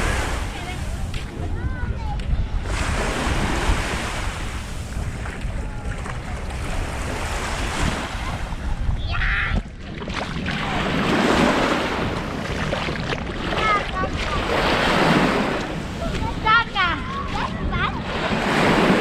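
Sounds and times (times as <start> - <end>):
small waves breaking on sand: 0.0 - 1.5, 2.5 - 8.8, 9.9 - 19.0
wind rumbling on microphone: 0.0 - 19.0.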